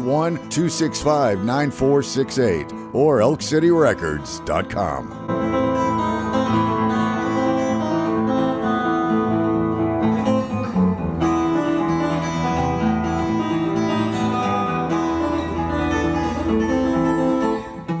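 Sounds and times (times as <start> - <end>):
acoustic guitar music: 0.0 - 18.0.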